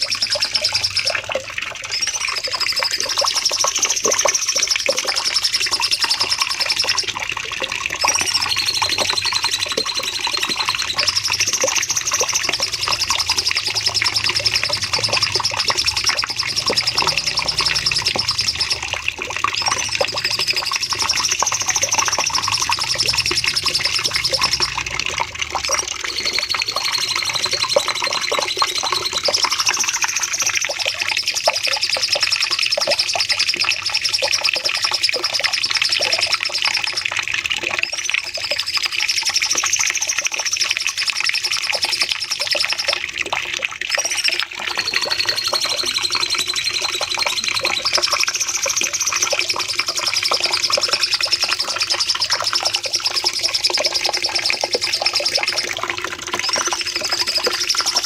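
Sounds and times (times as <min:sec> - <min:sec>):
bird singing rapid trilled phrases: 0:00.0 - 0:43.1, 0:43.8 - 0:58.0.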